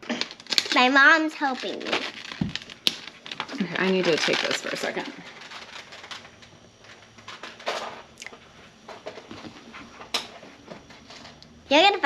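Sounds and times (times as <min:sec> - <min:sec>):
packaging rustling: 0:00.0 - 0:11.3.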